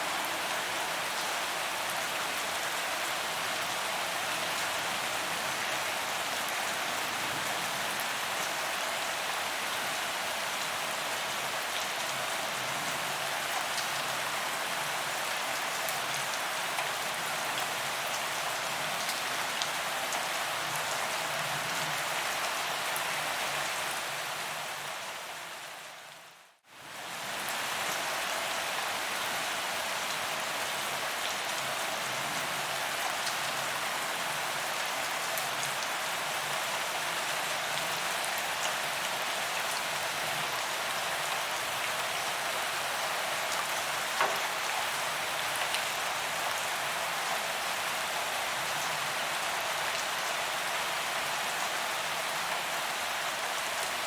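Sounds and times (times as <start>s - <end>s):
rain on pavement: 0.0s - 54.0s.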